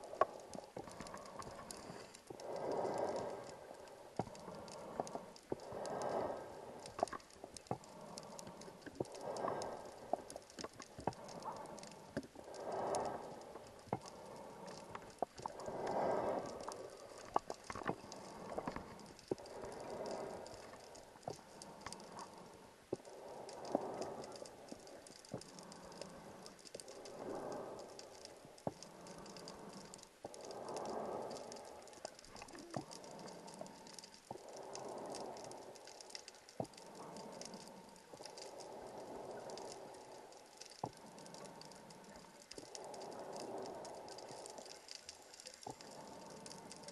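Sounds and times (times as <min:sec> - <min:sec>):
crackle of small clicks: 0:00.0 - 0:46.9.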